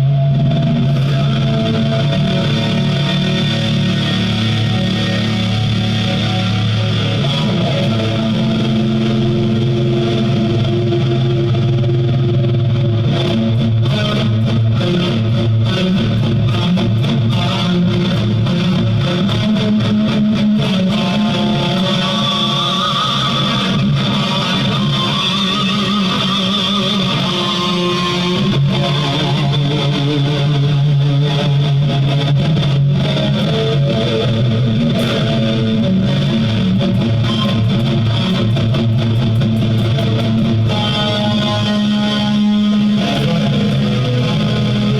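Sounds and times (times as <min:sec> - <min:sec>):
electric guitar music: 0:00.0 - 0:44.9.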